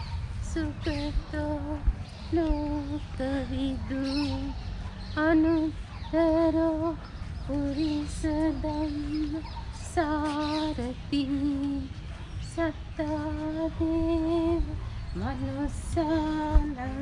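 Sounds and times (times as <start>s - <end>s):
woman singing a slow chant: 0.0s - 17.0s.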